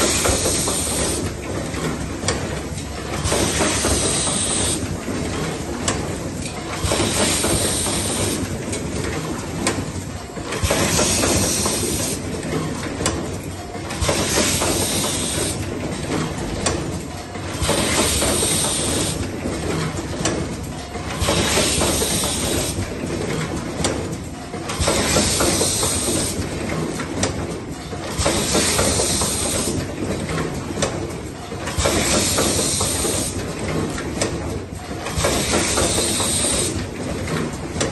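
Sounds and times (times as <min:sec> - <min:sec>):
machine clattering and clicking: 0:00.0 - 0:37.9.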